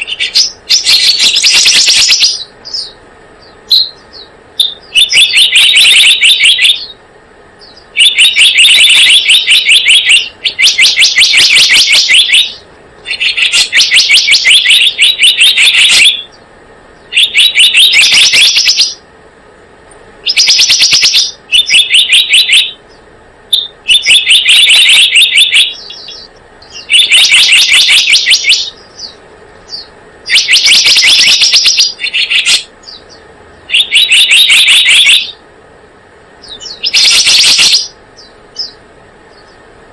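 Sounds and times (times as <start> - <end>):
bird high chattering trills: 0.0 - 7.0, 7.6 - 19.1, 20.2 - 35.4, 36.4 - 39.6.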